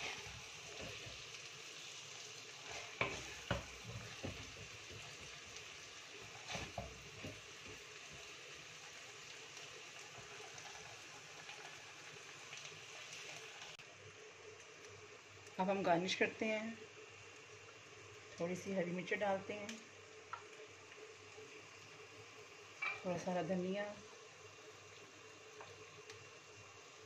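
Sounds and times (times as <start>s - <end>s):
faint sizzle: 0.0s - 27.0s.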